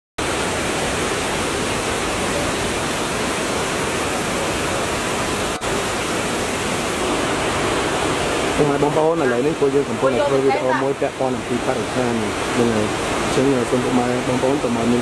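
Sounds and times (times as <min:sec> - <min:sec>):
stream rushing over rocks: 0:00.2 - 0:15.0.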